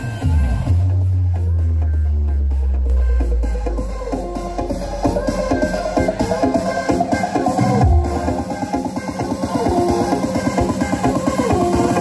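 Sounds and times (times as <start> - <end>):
electronic dance music with heavy bass: 0.0 - 12.0.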